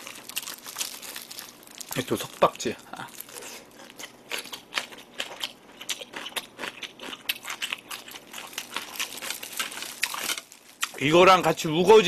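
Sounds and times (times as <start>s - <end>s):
crunchy chewing: 0.0s - 11.5s.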